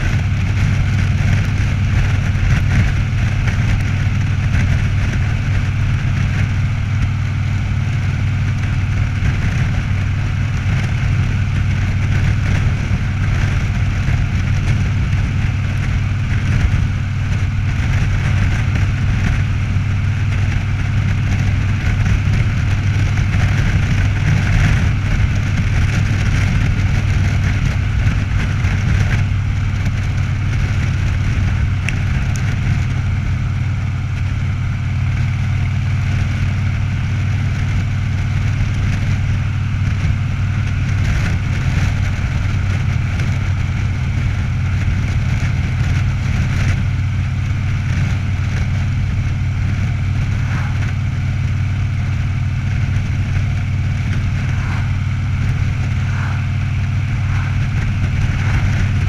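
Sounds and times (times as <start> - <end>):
motorcycle engine droning: 0.0 - 59.0
wind rushing over microphone: 0.0 - 59.0.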